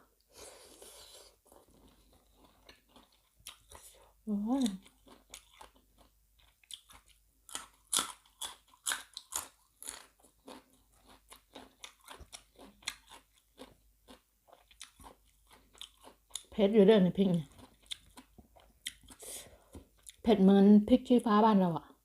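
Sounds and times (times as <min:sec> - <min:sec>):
person chewing crunchy food: 0:00.3 - 0:16.5, 0:17.4 - 0:20.2.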